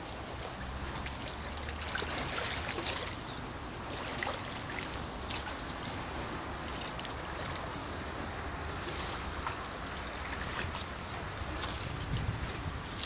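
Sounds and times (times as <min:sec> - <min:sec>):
small waves lapping against boats: 0:00.0 - 0:13.0
water splashes and drips: 0:00.0 - 0:13.0.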